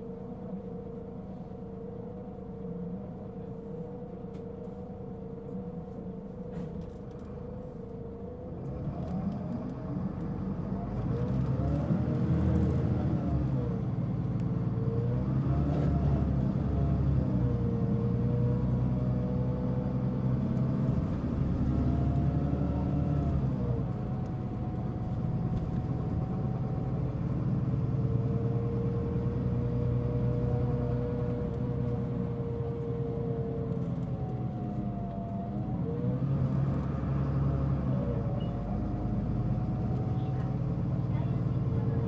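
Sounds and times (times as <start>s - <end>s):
bus diesel engine running: 0.0s - 42.0s.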